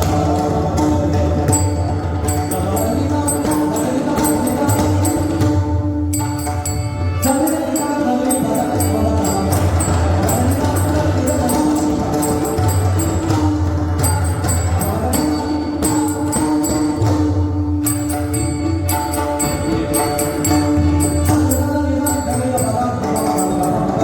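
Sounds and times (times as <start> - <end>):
devotional music: 0.0 - 24.0
hand drums playing: 0.0 - 24.0.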